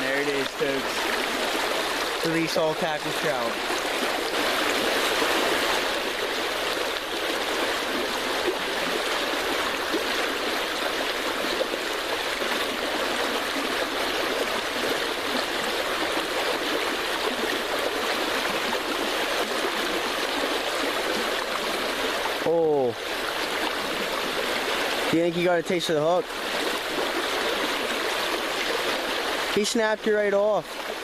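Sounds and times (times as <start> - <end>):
creek water rushing: 0.0 - 31.0.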